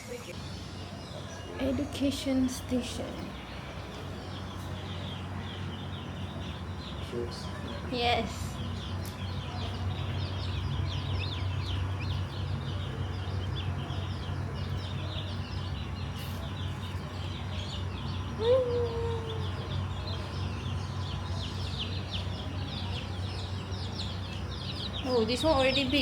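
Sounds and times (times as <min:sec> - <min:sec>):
small birds chirping: 0:00.0 - 0:26.0
steady low hum: 0:00.0 - 0:26.0.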